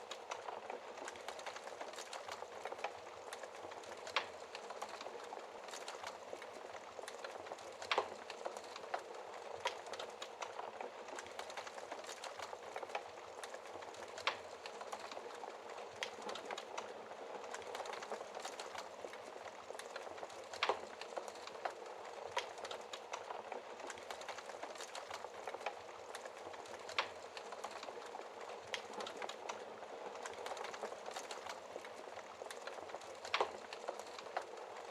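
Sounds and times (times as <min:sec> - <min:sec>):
fire hissing and crackling: 0:00.0 - 0:34.9.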